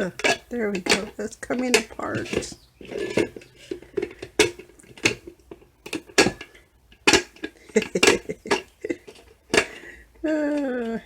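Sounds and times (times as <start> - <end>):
sharp clacks and knocks: 0.0 - 9.8.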